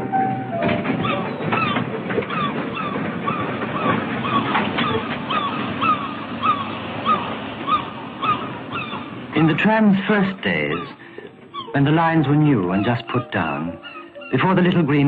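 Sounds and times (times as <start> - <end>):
gulls calling: 0.1 - 15.0.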